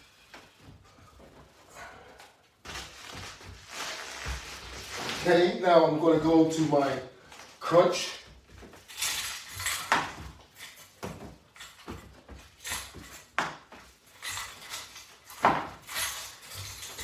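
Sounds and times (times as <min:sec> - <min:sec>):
exercise gear clicking and rustling: 0:00.0 - 0:17.0.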